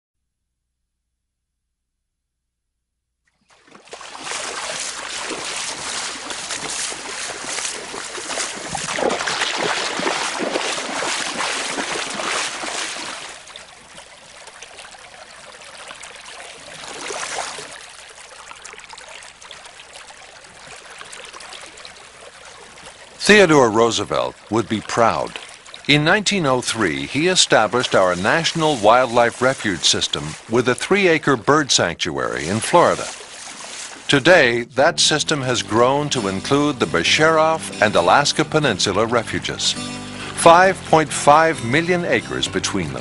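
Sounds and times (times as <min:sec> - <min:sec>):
stream water running: 0:03.3 - 0:43.0
water splashing: 0:03.3 - 0:43.0.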